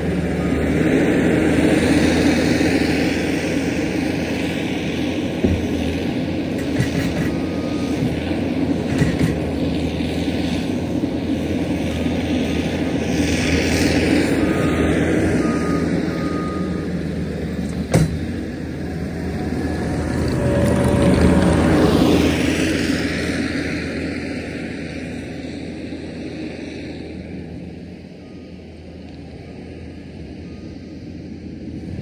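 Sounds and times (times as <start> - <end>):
heavy machinery diesel engine: 0.0 - 32.0.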